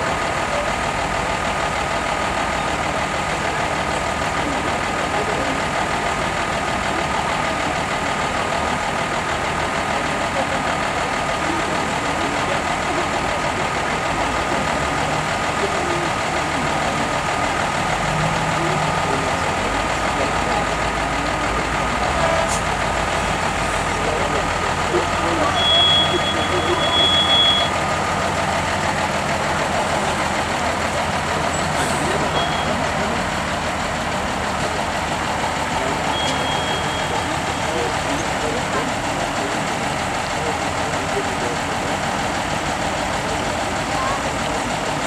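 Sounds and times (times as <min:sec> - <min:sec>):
truck engine running at low revs: 0:00.0 - 0:45.0.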